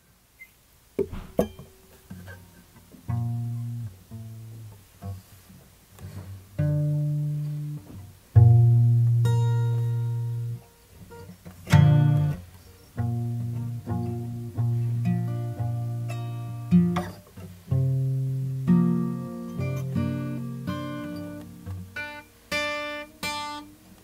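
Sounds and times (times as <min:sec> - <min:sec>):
guitar notes: 0:01.0 - 0:05.2, 0:06.0 - 0:24.0.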